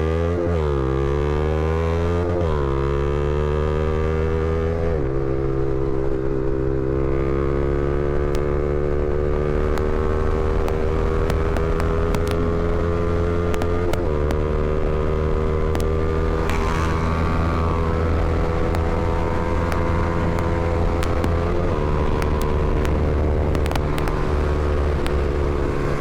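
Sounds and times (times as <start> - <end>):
motorcycle engine running: 0.7 - 26.0.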